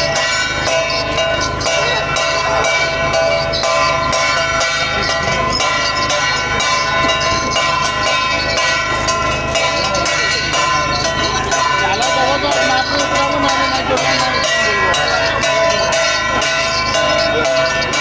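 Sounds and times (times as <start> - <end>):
metal bells clanging: 0.0 - 18.0.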